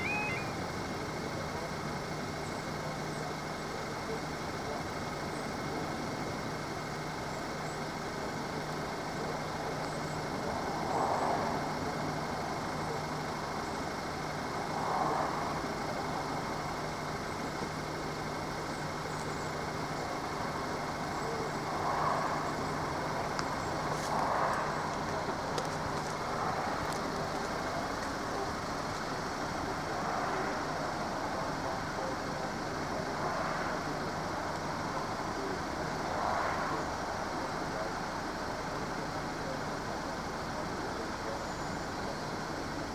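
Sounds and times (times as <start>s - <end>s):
road traffic noise: 0.0s - 42.9s
vehicles passing: 0.0s - 42.9s.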